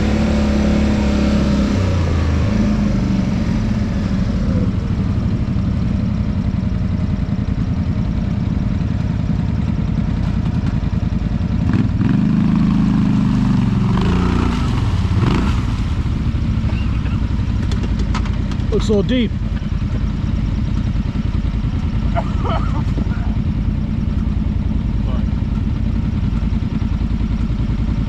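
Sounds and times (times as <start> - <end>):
atv engine running and revving: 0.0 - 28.0.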